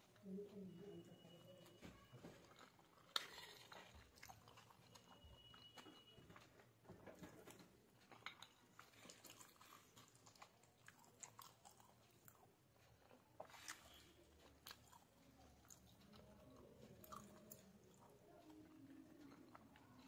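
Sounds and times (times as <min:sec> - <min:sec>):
chewing pasta: 0:00.0 - 0:20.0.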